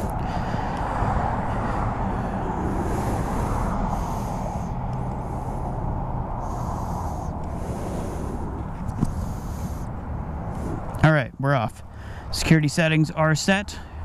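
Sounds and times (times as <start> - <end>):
vehicle engines rumbling: 0.0 - 14.0.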